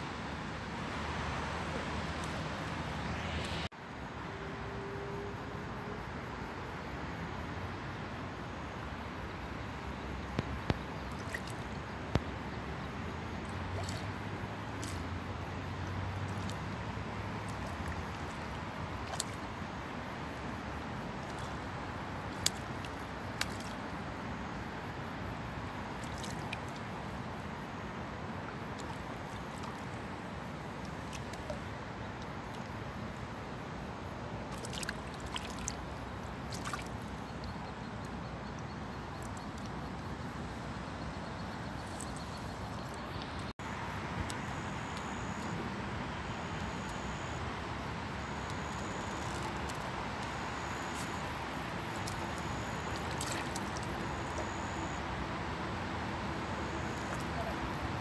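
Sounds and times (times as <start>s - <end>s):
fish splashing in shallow water: 9.7s - 58.0s.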